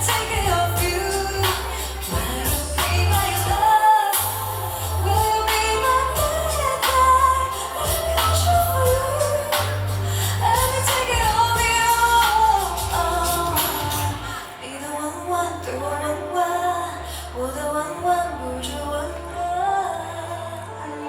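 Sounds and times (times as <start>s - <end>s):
backing music with bass: 0.0s - 21.0s
woman singing: 0.0s - 21.0s.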